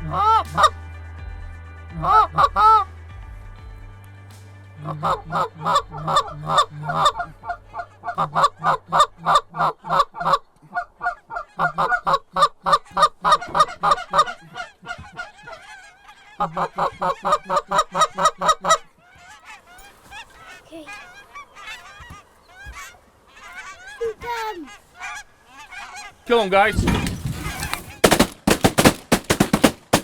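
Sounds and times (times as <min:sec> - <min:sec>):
goose call honks and clucks: 0:00.0 - 0:00.8, 0:02.0 - 0:02.9, 0:04.8 - 0:28.2
faint wavering geese calling: 0:00.0 - 0:30.0.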